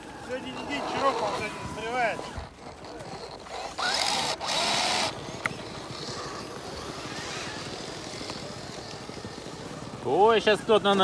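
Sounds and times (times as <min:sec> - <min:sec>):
rc car drive noise: 0:00.0 - 0:11.0
rc car wheels spinning in snow: 0:00.0 - 0:11.0.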